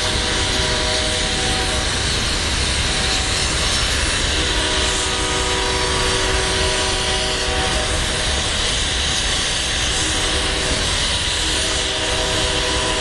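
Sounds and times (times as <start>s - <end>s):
train cars rolling on rails: 0.0s - 13.0s.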